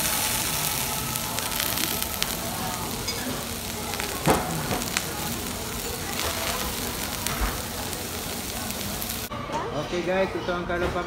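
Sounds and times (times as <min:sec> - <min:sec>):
meat sizzling on hot plate: 0:00.0 - 0:09.3.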